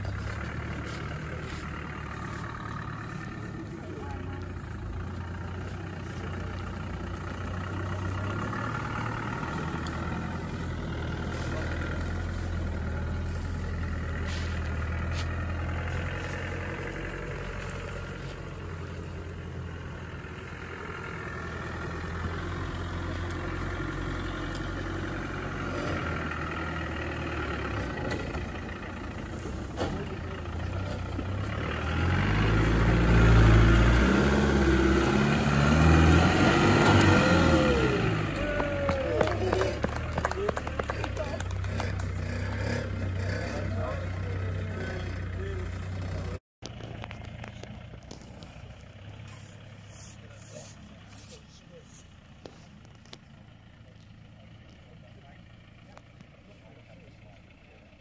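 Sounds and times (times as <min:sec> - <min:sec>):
car engine running and revving: 0:00.0 - 0:58.0.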